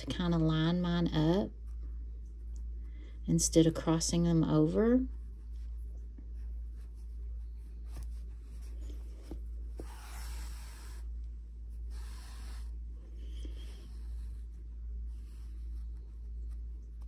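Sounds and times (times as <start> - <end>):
steady low hum: 0.0 - 17.0
yarn rubbing and rustling: 3.3 - 17.0.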